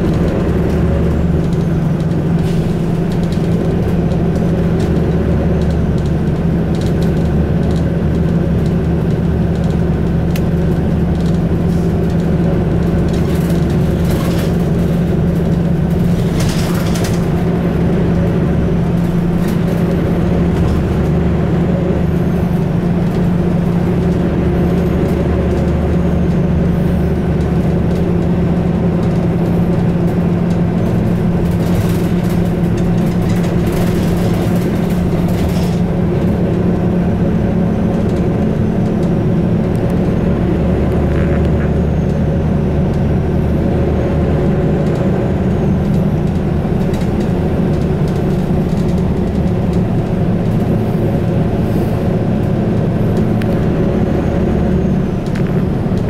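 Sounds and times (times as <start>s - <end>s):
vehicle engine and road drone: 0.0s - 56.0s.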